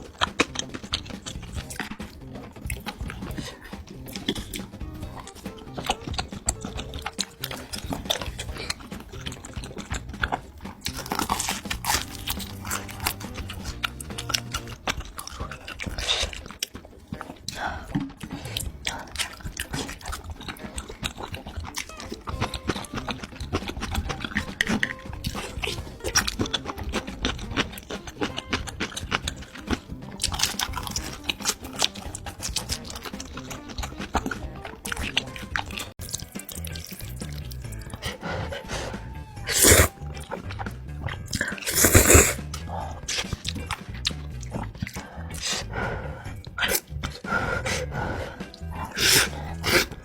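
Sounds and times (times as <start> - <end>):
background music: 0.0 - 50.0
person chewing and smacking food: 0.0 - 50.0.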